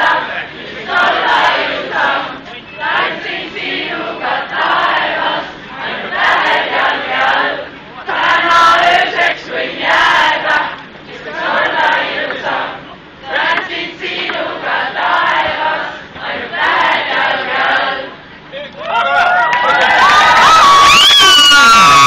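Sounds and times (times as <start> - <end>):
concert crowd singing along: 0.0 - 18.2.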